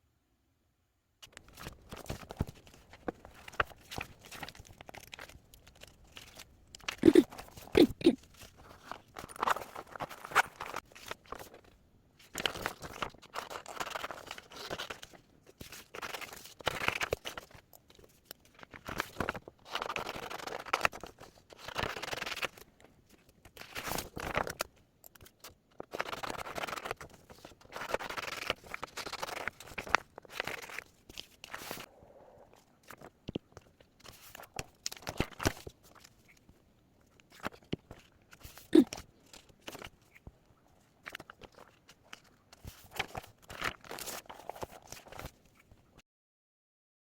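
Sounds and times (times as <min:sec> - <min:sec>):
paper rustling and crinkling: 0:01.2 - 0:31.9, 0:32.8 - 0:45.8.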